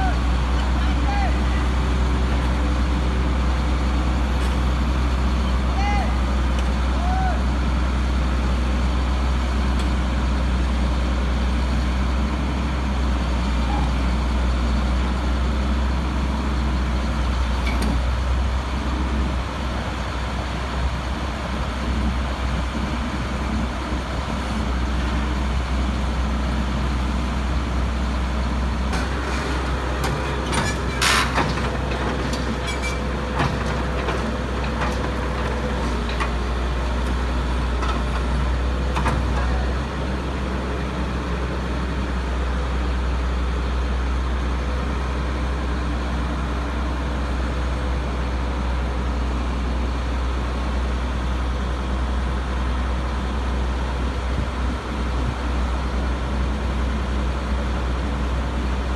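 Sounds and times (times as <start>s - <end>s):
diesel engine droning: 0.0s - 58.9s.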